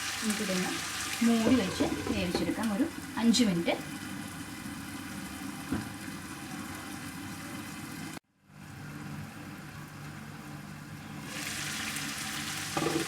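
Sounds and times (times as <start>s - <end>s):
pan simmering hiss: 0.0s - 13.0s.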